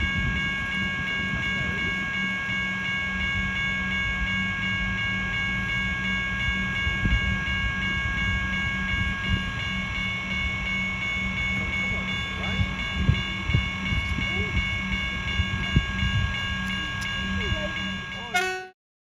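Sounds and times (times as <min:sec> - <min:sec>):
train whine: 0:00.0 - 0:18.8.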